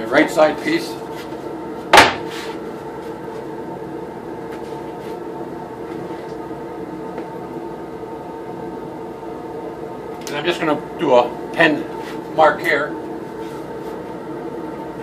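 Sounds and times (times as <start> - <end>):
shop machinery hum: 0.0 - 15.0.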